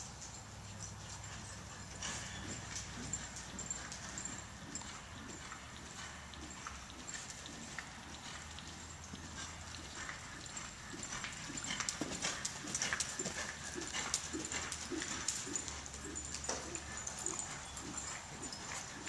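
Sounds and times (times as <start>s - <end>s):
hoofbeats on soft dirt: 0.0s - 19.0s.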